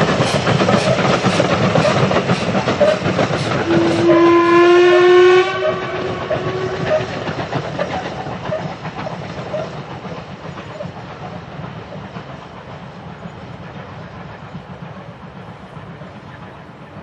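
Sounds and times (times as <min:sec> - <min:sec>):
steam locomotive exhaust beats: 0:00.0 - 0:17.0.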